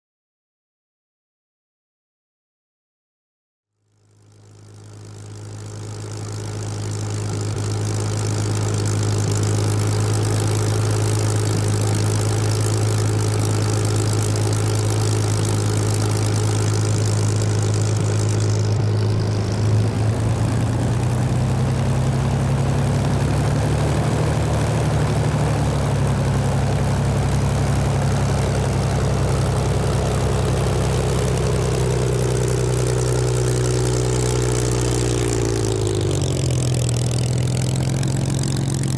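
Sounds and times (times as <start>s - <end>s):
propeller aircraft engine running: 3.9s - 38.9s.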